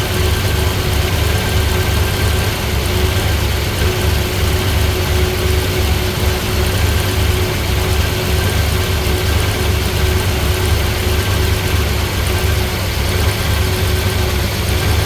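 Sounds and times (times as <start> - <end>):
engine idling unevenly: 0.0 - 15.0.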